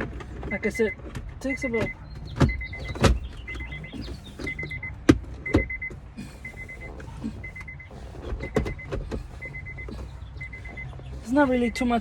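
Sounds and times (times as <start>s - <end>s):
car warning chime pips: 0.4s - 12.0s.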